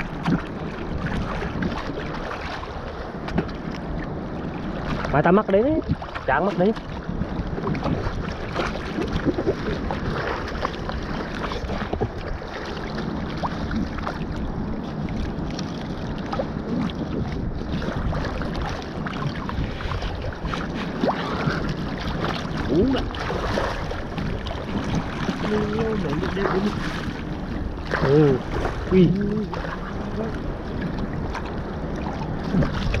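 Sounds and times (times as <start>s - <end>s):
small waves lapping and splashing: 0.0s - 33.0s
wind on microphone: 0.0s - 33.0s.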